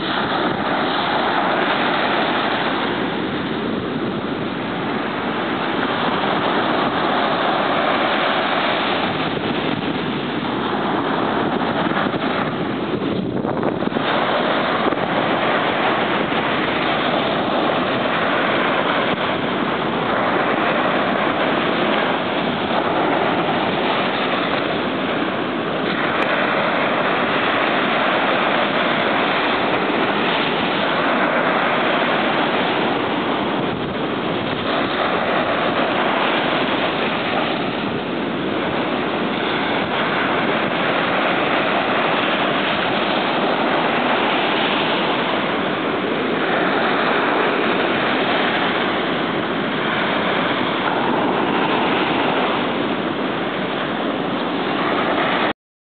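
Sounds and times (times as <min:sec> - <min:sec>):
wind on microphone: 0:00.0 - 0:55.5
surf washing on beach: 0:00.0 - 0:55.6.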